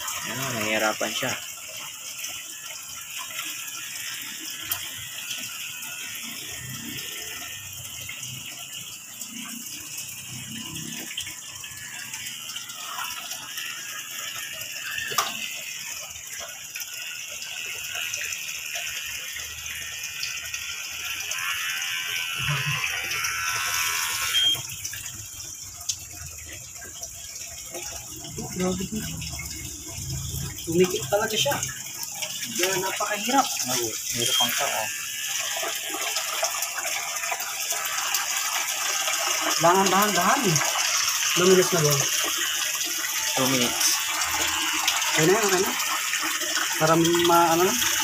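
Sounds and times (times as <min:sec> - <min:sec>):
electric clippers running: 0:00.0 - 0:48.0.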